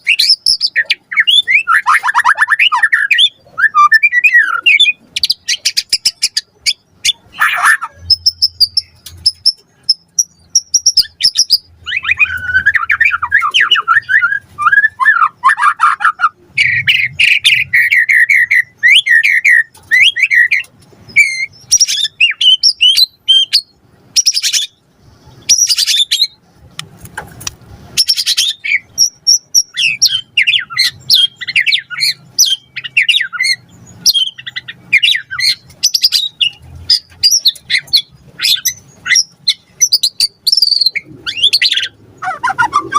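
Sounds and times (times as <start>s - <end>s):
songbird singing varied song: 0.0s - 26.4s, 27.9s - 42.9s.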